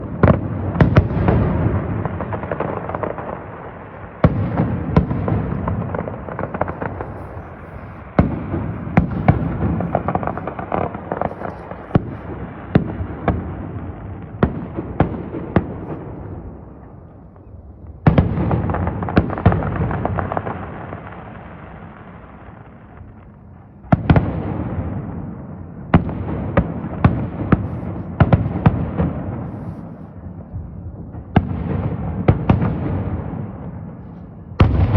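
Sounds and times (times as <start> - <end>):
firework crackling reports: 0.0 - 34.9
firework shells booming: 0.0 - 34.9
rolling rumble and echo: 0.0 - 34.9.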